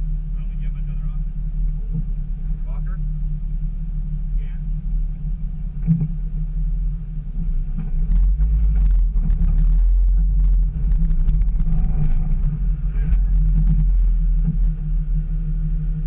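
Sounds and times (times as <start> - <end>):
engine rumbling at low speed: 0.0 - 16.0.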